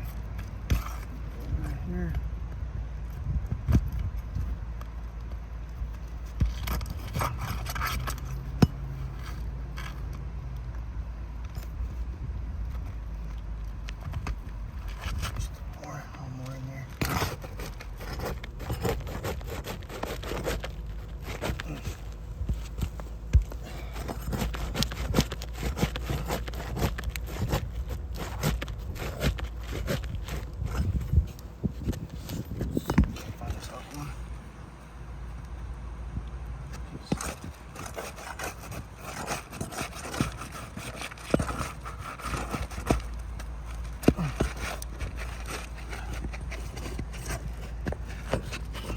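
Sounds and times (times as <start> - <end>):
tool scraping under shingles: 0.0 - 2.2, 3.2 - 10.3, 14.0 - 34.9, 36.7 - 48.9.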